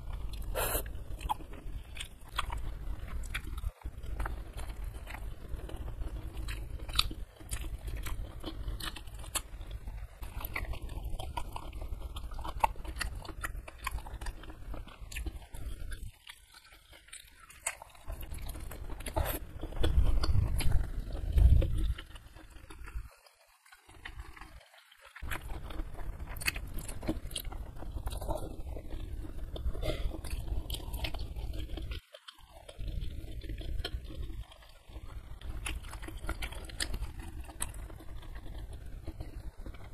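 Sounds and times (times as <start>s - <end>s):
close chewing with wet mouth clicks: 0.0s - 39.9s.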